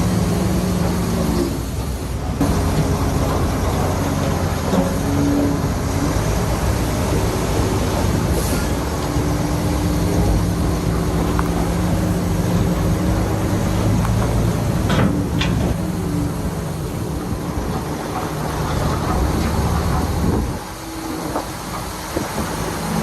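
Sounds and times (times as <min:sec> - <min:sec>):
diesel machinery engine drone: 0:00.0 - 0:23.0
rough grinding noise: 0:02.4 - 0:23.0.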